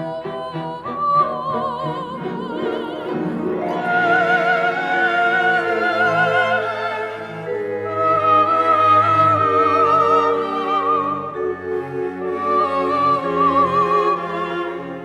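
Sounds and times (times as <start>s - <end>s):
classical melody with vibrato: 0.0s - 15.0s
soft accompaniment: 0.0s - 15.0s.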